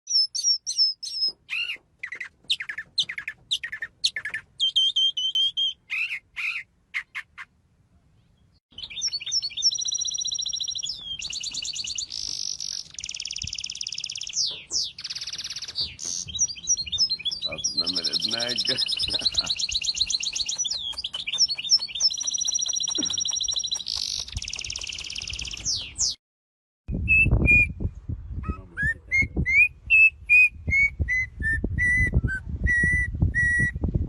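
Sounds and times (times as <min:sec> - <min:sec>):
bird chirping and trilling: 0:00.1 - 0:07.6, 0:08.2 - 0:26.2, 0:26.9 - 0:33.8.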